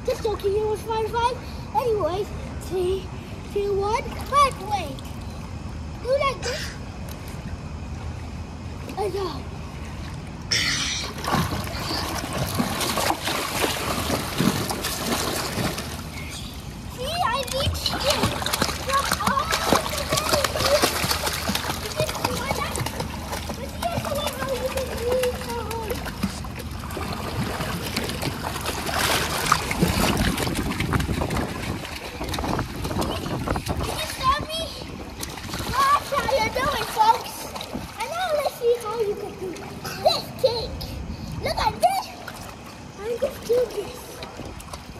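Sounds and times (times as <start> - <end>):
pool water splashing: 0.0 - 44.9.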